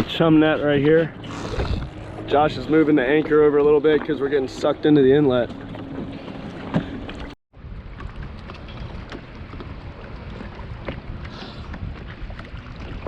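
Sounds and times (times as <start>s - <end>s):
water lapping against hull: 0.0s - 13.0s
wind buffeting microphone: 0.0s - 13.0s.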